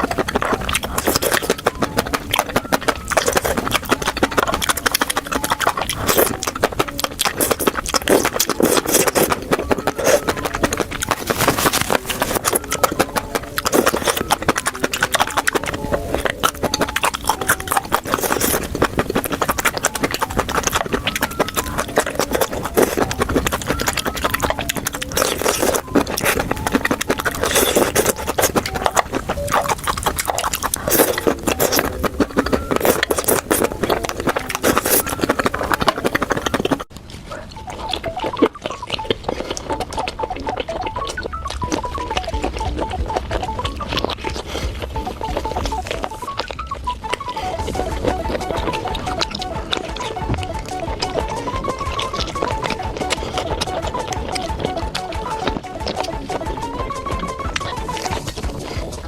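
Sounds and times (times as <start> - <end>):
person chewing wetly: 0.0 - 59.0.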